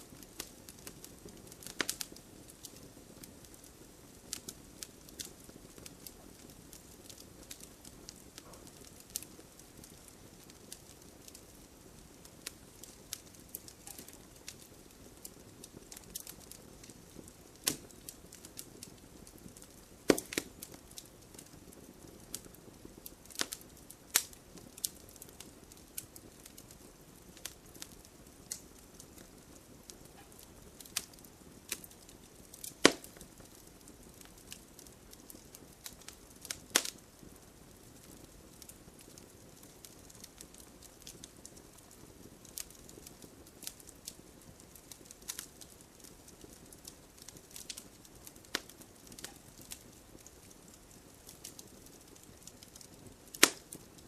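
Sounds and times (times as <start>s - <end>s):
campfire crackling: 0.0s - 54.0s
low steady hiss: 0.0s - 54.0s.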